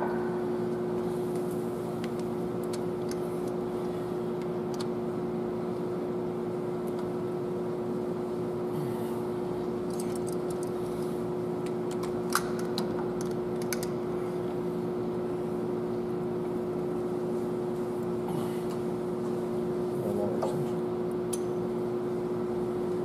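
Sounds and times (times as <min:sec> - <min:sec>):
workshop equipment humming: 0:00.0 - 0:23.0.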